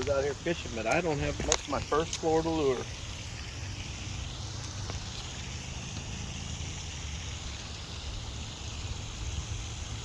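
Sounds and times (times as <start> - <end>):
faint hiss: 0.0 - 10.0.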